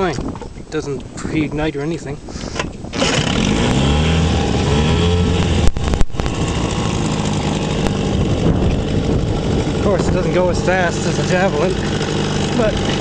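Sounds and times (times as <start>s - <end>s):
outboard motor running: 2.3s - 13.0s.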